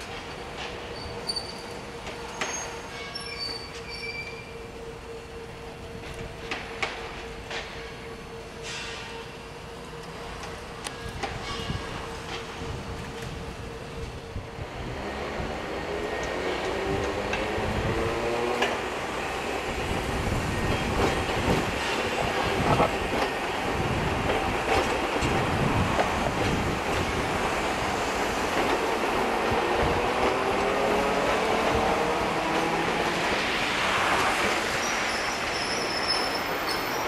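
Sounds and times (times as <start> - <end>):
tram wheels squealing: 0.0 - 14.4, 15.9 - 37.0.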